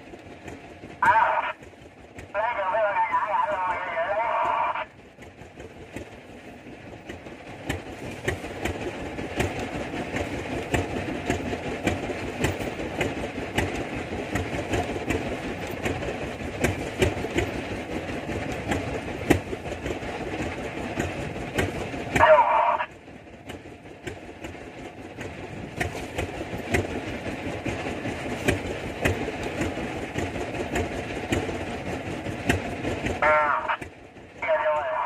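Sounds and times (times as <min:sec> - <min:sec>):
boat engine clattering: 0:00.0 - 0:35.0
water rushing along hull: 0:00.0 - 0:35.0.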